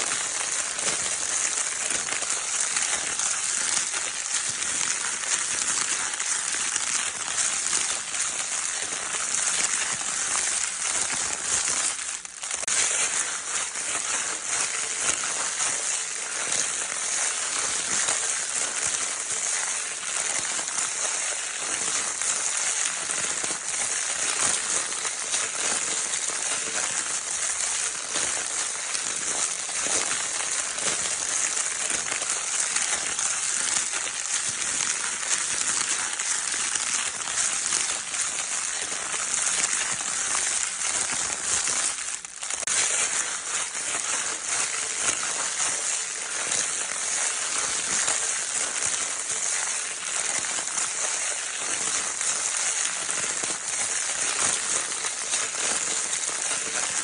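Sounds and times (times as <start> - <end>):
crinkle paper toy crackling: 0.0 - 57.0.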